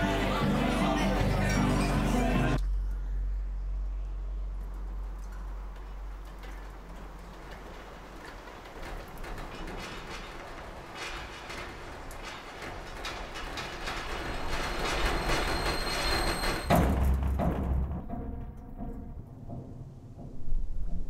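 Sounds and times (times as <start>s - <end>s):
grinding rumble: 0.0s - 21.0s.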